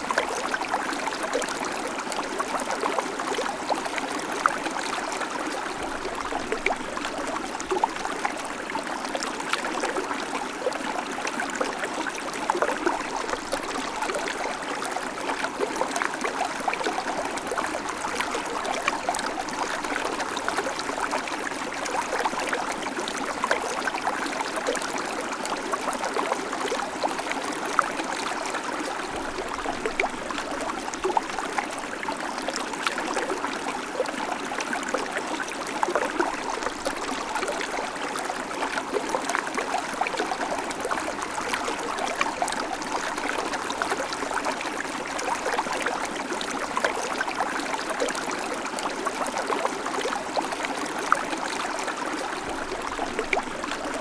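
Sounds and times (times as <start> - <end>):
creek water over stones: 0.0 - 54.0.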